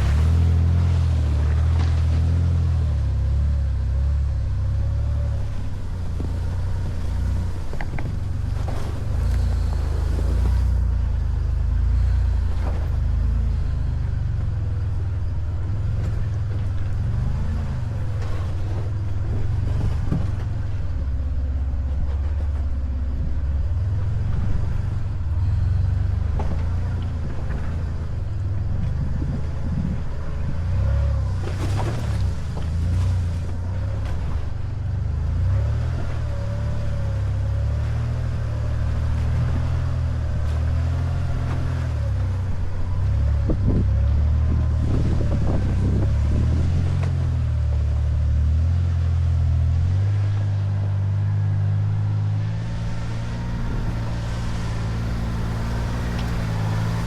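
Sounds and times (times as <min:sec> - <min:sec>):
vehicle engine low rumble: 0:00.0 - 0:57.0.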